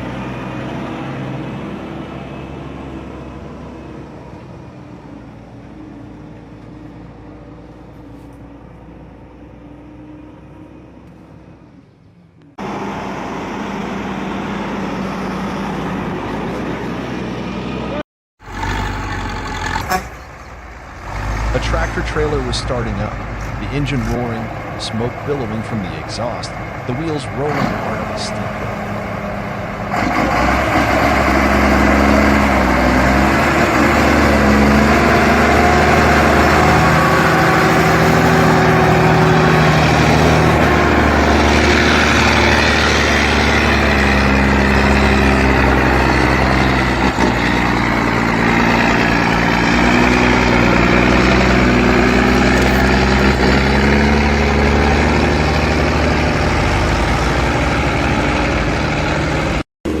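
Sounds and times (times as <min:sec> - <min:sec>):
diesel truck engine under load: 0:00.0 - 1:00.0.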